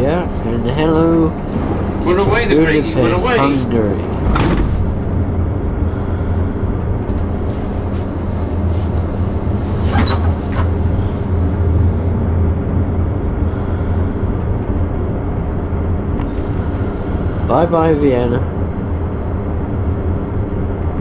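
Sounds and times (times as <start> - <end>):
train carriage rumbling on rails: 0.0 - 21.0.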